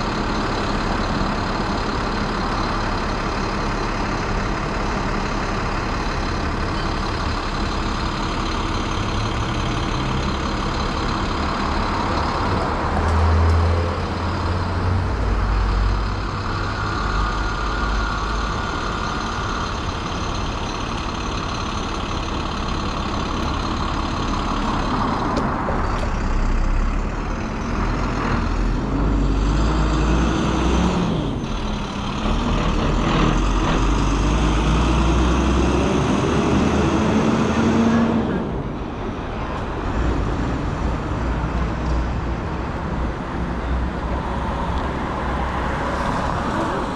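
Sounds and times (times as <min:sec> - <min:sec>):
heavy traffic rumble: 0:00.0 - 0:46.9.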